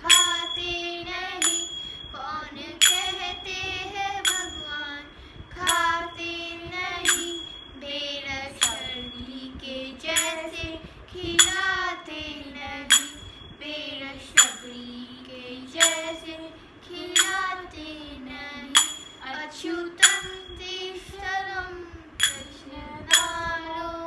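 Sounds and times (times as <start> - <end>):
small hand cymbals striking: 0.0 - 17.9, 18.5 - 21.5, 22.2 - 23.9
girl singing: 0.0 - 24.0.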